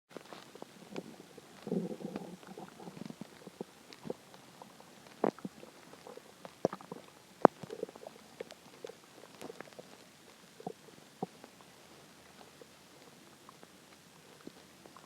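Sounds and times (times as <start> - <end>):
stomach growling: 0.2 - 15.0.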